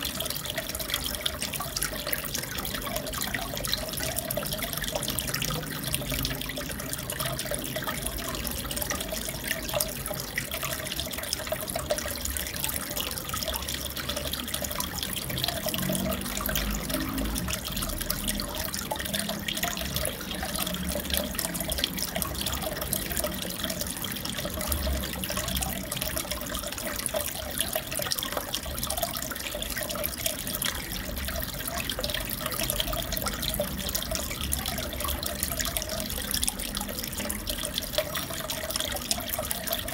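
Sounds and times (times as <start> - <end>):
aquarium water bubbling: 0.0 - 39.9
water drips and splashes: 0.0 - 39.9.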